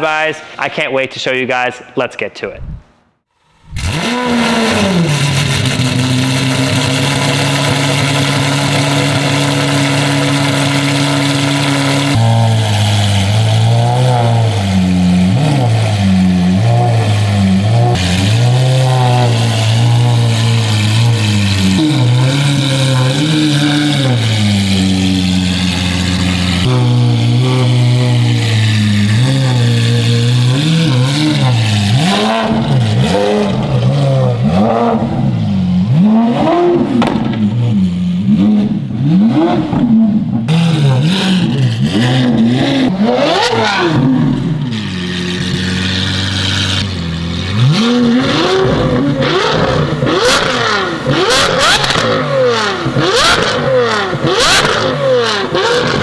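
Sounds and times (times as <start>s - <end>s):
sports car engine revving: 3.6s - 56.0s.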